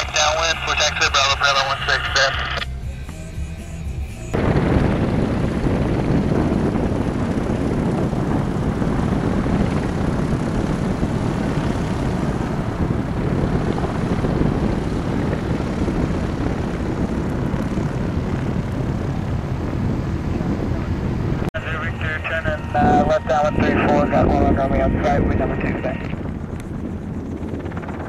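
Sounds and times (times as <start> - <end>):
motorglider engine and propeller: 0.0 - 28.0.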